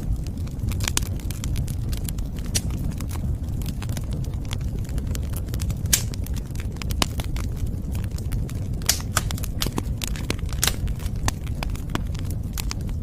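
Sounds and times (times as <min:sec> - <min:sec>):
burning wood crackling and popping: 0:00.0 - 0:13.0
low fire rumble: 0:00.0 - 0:13.0.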